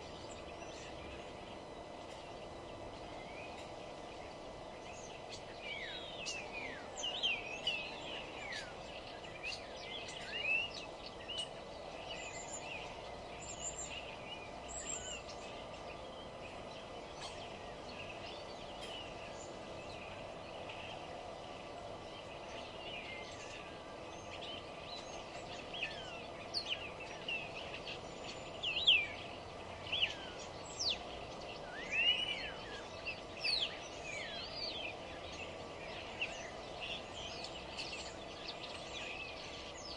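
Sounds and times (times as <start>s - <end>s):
songbirds singing and chirping: 0.0s - 39.9s
steady low hum: 0.0s - 39.9s.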